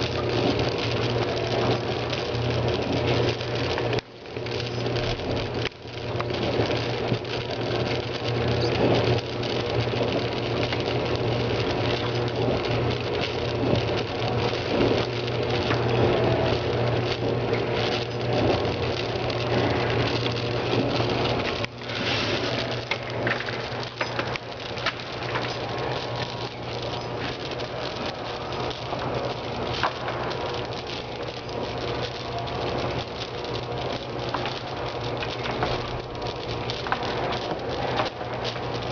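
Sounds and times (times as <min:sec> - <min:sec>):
feeder motor hum: 0:00.0 - 0:38.9.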